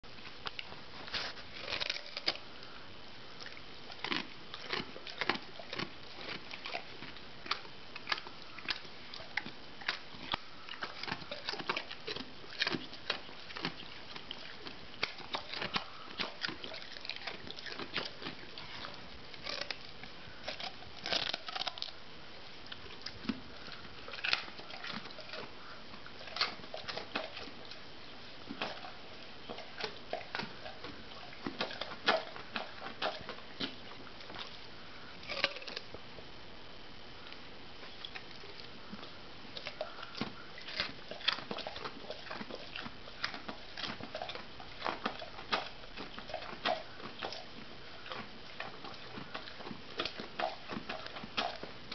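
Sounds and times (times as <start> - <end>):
dog crunching a carrot: 0.2 - 36.3, 37.2 - 51.9.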